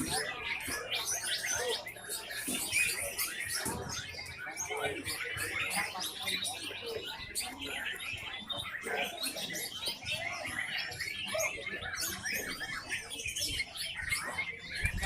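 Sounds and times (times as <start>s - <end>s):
birds singing whistles and chirps: 0.0s - 15.0s.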